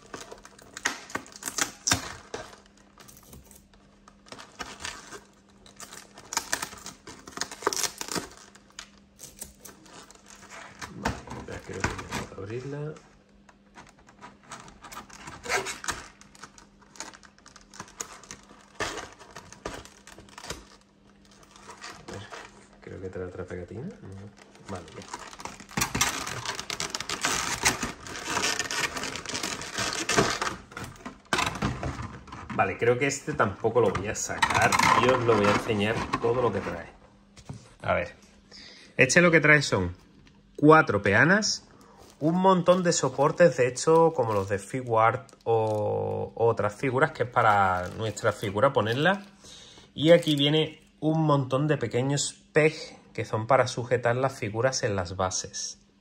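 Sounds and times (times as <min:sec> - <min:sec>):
packaging scratching and crinkling: 0:00.0 - 0:22.9, 0:23.7 - 0:37.0, 0:42.0 - 0:50.7.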